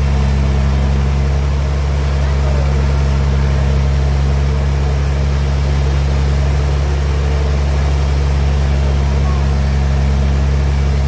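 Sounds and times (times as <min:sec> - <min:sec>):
band saw machinery drone: 0:00.0 - 0:11.0.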